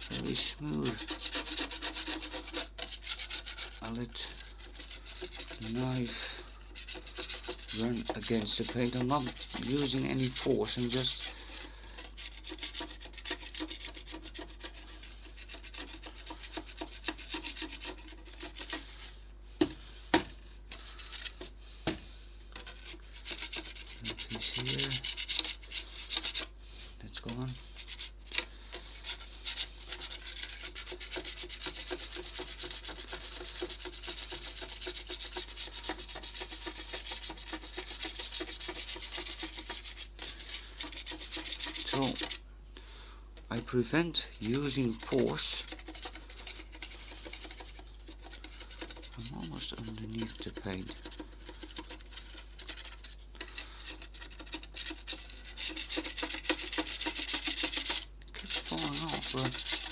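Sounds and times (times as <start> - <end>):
knife scraping paint off plastic: 0.0 - 22.0, 22.6 - 26.6, 27.7 - 42.4, 44.4 - 59.9.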